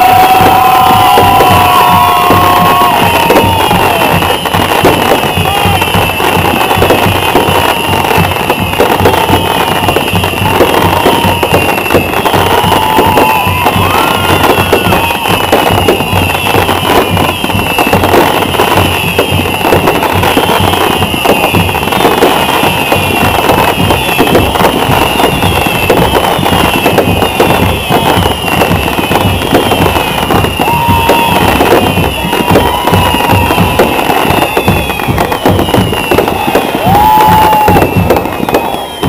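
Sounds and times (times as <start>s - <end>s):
fireworks bangs and crackling: 0.0s - 39.0s
high falling whistles: 0.0s - 39.0s.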